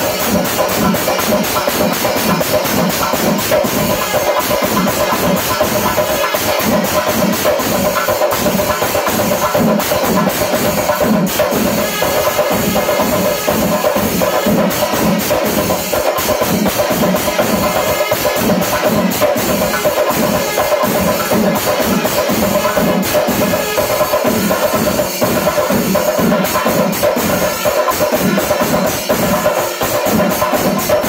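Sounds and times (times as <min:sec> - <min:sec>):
cymbals clashing: 0:00.0 - 0:31.0
drums beaten with sticks: 0:00.0 - 0:31.0.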